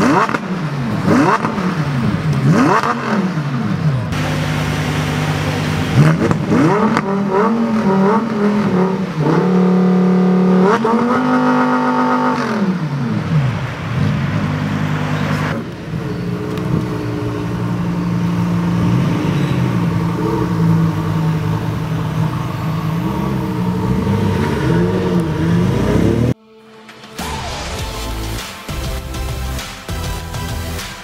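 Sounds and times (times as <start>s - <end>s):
sports car engine revving: 0.0s - 26.4s.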